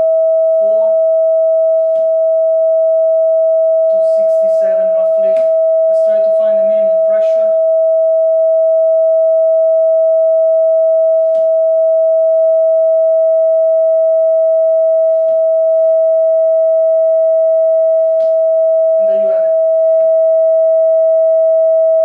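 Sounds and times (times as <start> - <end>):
sine test tone: 0.0 - 22.0.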